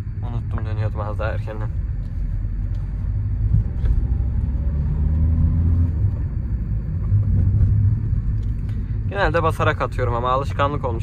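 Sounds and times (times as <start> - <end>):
diesel engine inside car: 0.0 - 11.0
road rumble: 0.0 - 11.0.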